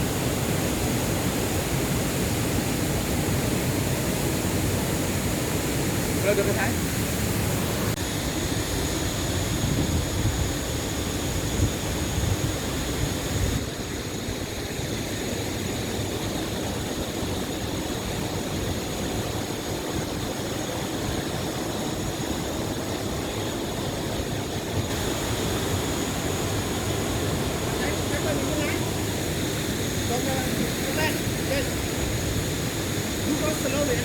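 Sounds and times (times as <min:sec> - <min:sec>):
rushing stream water: 0:00.0 - 0:34.0.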